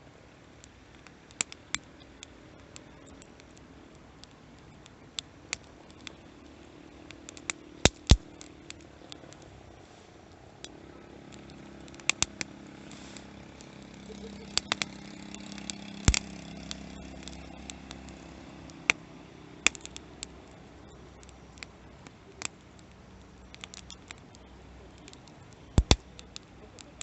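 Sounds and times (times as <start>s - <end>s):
faint low hum: 0.0s - 27.0s
sharp pops of fire: 0.0s - 27.0s
wood fire crackling: 0.0s - 27.0s.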